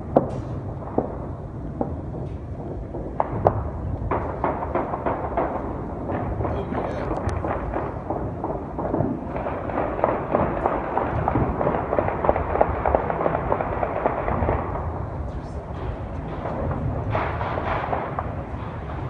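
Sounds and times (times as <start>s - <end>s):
low background noise: 0.0s - 19.0s
rapid distant bangs: 0.0s - 19.0s.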